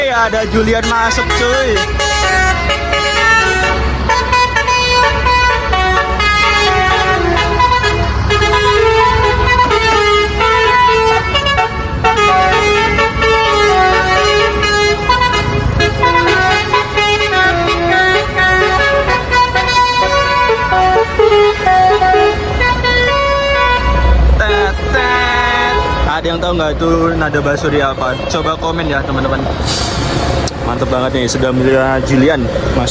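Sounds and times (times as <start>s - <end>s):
bus engine rumble: 0.0s - 32.9s
multi-tone bus horn melody: 0.0s - 32.9s.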